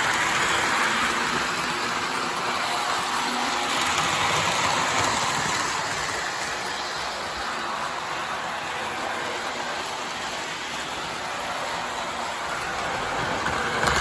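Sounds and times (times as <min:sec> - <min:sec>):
model train rolling whirr: 0:00.0 - 0:14.0.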